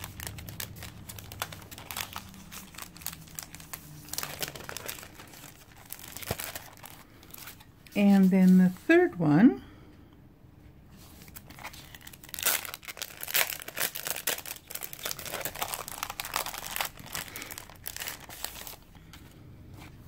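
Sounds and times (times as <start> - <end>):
plastic sleeve crinkling: 0.0 - 8.8, 11.0 - 19.2.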